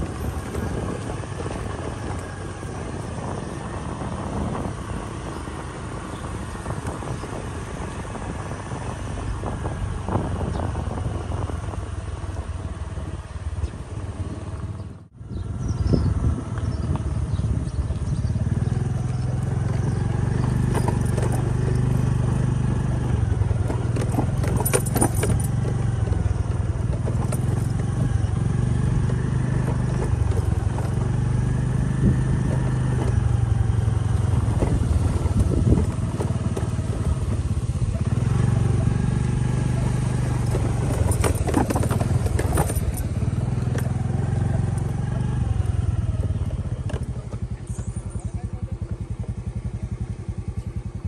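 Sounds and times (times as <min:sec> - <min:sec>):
motorcycle engine revving: 0:00.0 - 0:51.0
motorcycle rattling and clicking: 0:00.0 - 0:51.0.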